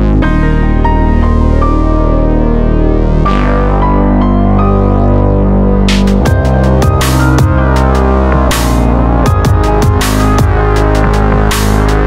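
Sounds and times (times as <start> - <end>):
electronic background music: 0.0 - 12.0.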